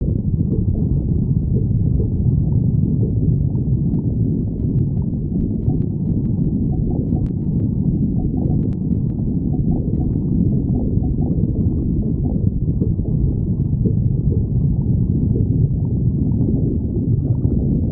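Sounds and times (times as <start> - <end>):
stomach growling: 0.0 - 17.9.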